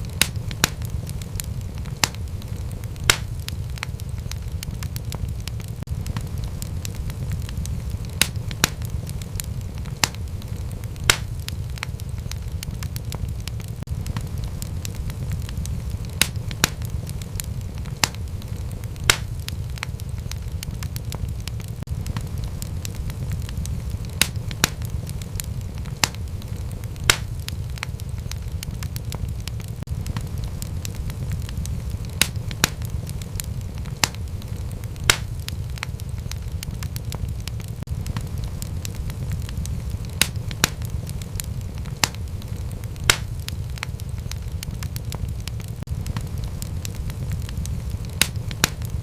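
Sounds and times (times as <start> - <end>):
loud fire pops: 0.0 - 49.0
low rumble of fire: 0.0 - 49.0
wood fire crackling: 0.0 - 49.0.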